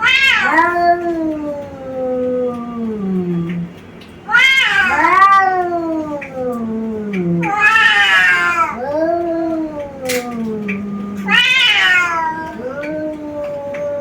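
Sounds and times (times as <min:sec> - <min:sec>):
cat yowling: 0:00.0 - 0:14.0.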